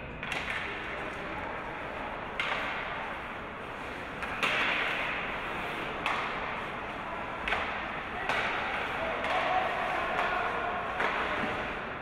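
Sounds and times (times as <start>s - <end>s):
rink background noise: 0.2s - 12.0s
skates scraping ice: 0.3s - 12.0s.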